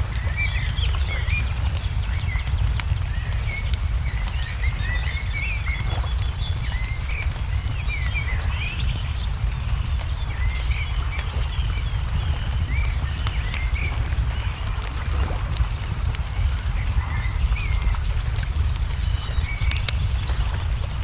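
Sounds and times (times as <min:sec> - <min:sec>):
low steady rumble: 0:00.0 - 0:21.0
songbirds chirping: 0:00.0 - 0:21.0
wood fire crackling: 0:00.0 - 0:21.0.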